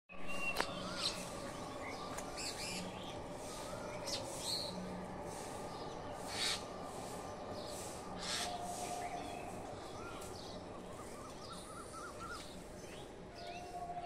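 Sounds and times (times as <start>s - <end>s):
birds chirping: 0.1s - 14.0s
steady background hum: 0.1s - 14.0s.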